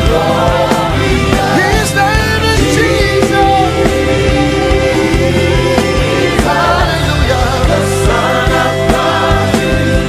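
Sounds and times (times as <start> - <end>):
live band with steady beat: 0.0 - 10.0
voices singing: 0.0 - 10.0.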